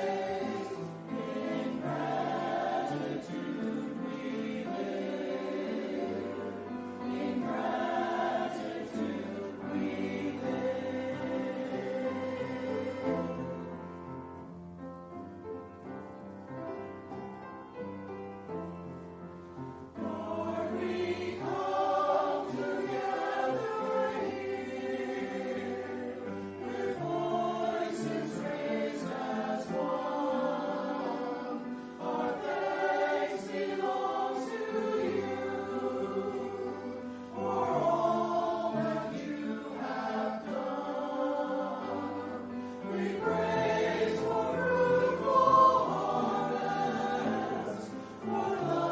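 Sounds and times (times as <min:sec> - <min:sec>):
choir singing: 0:00.0 - 0:14.7, 0:17.8 - 0:48.9.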